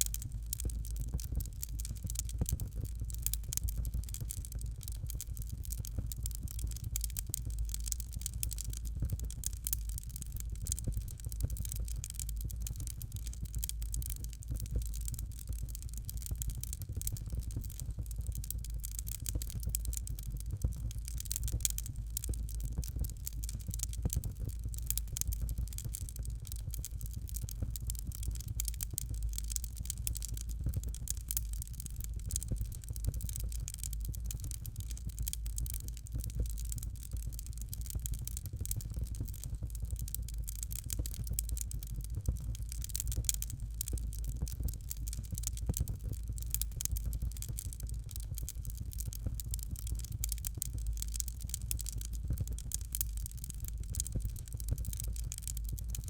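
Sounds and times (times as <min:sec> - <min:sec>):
fire crackling: 0:00.0 - 0:56.0
low rumble of fire: 0:00.0 - 0:56.0.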